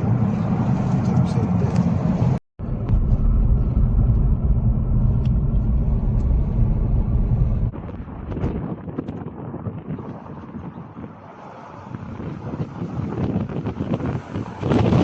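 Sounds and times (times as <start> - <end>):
car road noise rumble: 0.0 - 15.0.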